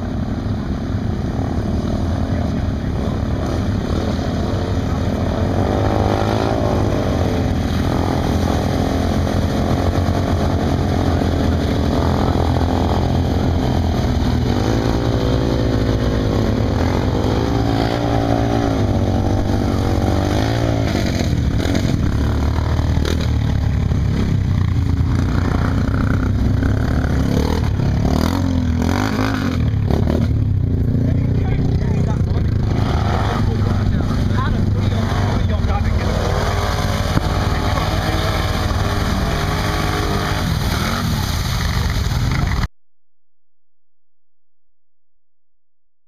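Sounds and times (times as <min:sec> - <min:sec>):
off-road vehicle engines revving: 0:00.0 - 0:42.7.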